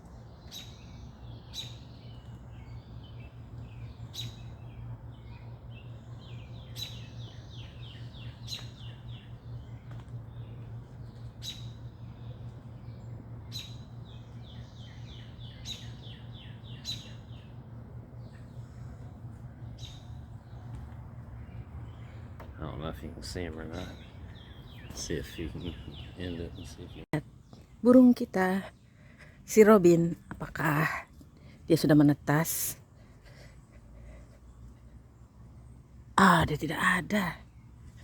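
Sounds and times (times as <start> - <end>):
songbirds chirping: 0.0 - 38.0
steady low hum: 0.0 - 38.0.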